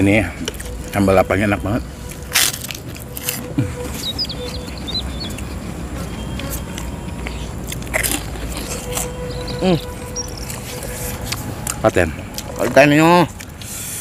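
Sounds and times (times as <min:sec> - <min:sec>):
man chewing food: 0:00.3 - 0:01.0, 0:01.8 - 0:14.0.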